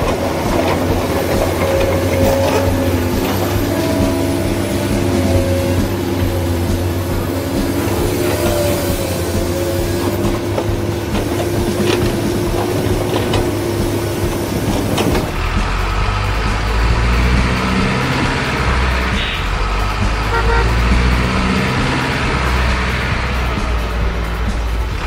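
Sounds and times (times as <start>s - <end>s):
truck horn: 0.0s - 24.5s
truck engine: 0.0s - 25.0s.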